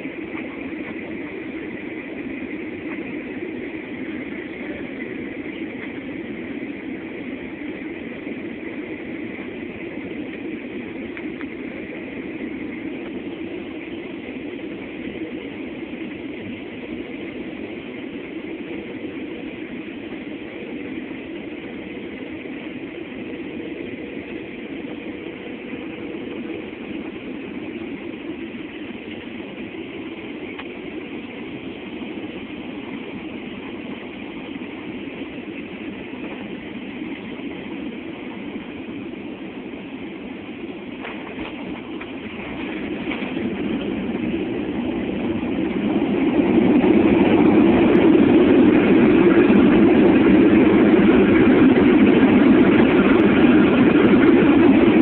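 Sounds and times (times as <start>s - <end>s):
faint steady hum: 0.0s - 55.0s
jet engine and rushing air: 0.0s - 55.0s.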